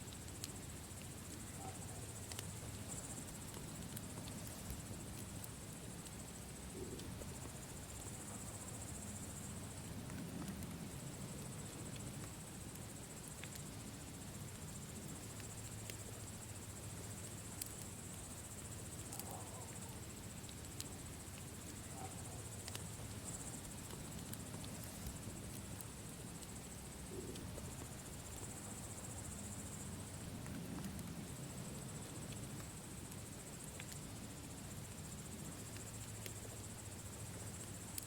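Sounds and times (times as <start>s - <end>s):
campfire burning: 0.0s - 38.0s.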